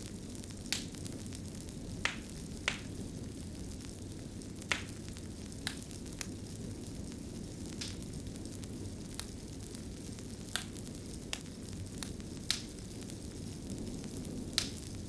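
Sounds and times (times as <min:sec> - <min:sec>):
fire popping and snapping: 0:00.0 - 0:15.0
fire rumbling: 0:00.0 - 0:15.0.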